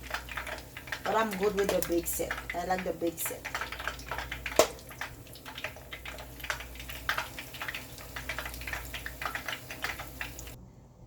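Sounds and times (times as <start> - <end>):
batter frying in hot oil: 0.0 - 10.6.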